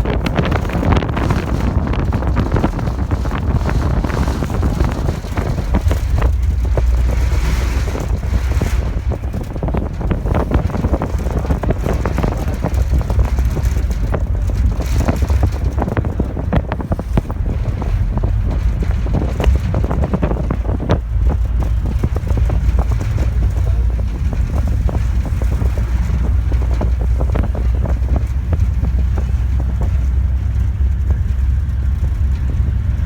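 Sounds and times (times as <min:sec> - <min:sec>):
low boat rumble: 0:00.0 - 0:33.0
wind buffeting microphone: 0:00.0 - 0:33.0.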